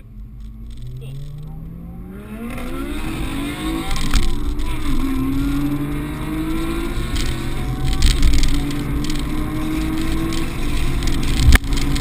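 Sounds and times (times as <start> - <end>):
exhaust cracks: 0.0 - 12.0
sports car engines accelerating: 0.0 - 12.0.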